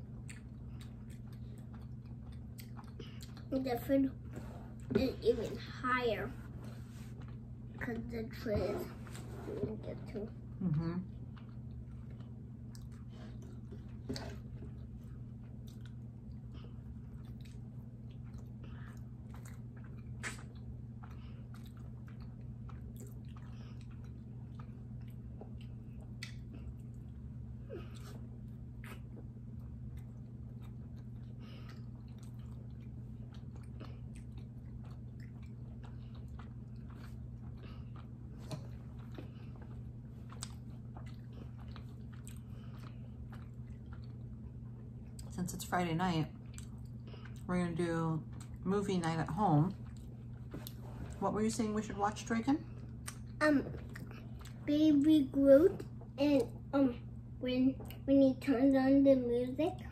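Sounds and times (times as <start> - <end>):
mouth chewing bread: 0.0 - 5.8, 6.7 - 45.4, 46.3 - 47.6, 48.2 - 51.2.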